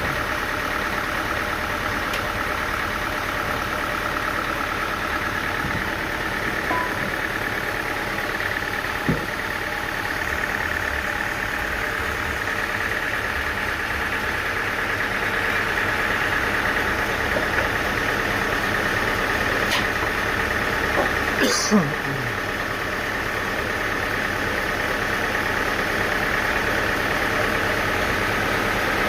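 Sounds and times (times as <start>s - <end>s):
sawmill machinery droning: 0.0s - 29.0s.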